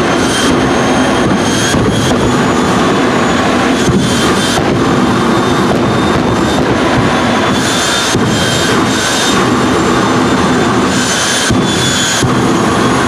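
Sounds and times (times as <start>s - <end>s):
afterburner firing: 0.0s - 13.0s
jet engines running loudly: 0.0s - 13.0s.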